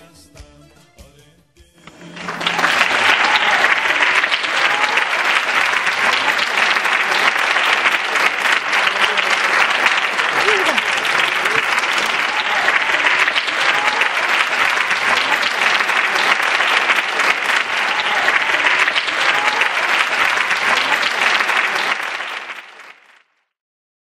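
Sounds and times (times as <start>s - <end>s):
audience applauding: 1.8s - 23.4s.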